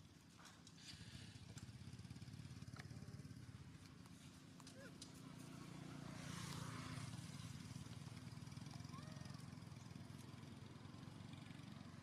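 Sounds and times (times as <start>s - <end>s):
low hum of a motor engine: 0.0s - 12.0s.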